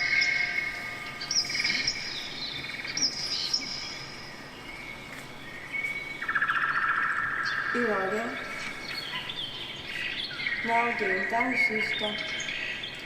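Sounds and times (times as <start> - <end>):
bird chirps and trills: 0.0 - 13.0
low buzzy bird trill: 0.0 - 13.0.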